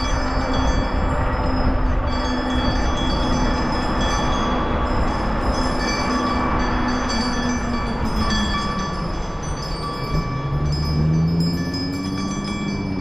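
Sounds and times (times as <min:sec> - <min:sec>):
wind on camera: 0:00.0 - 0:13.0.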